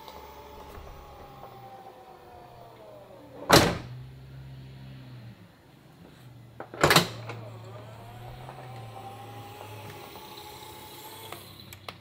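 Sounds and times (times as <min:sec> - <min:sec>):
liftgate motor whining: 0:00.0 - 0:05.6, 0:06.6 - 0:12.0.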